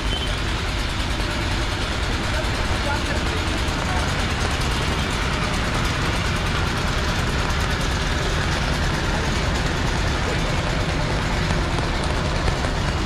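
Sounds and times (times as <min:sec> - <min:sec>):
vehicle engines rumbling: 0:00.0 - 0:13.0
wet traffic: 0:00.0 - 0:13.0.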